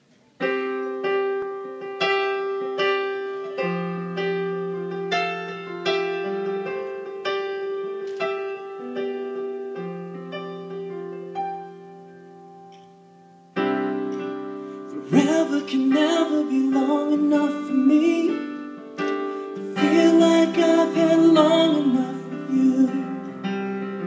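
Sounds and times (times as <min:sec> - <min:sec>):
slow solo piano: 0:00.0 - 0:24.0.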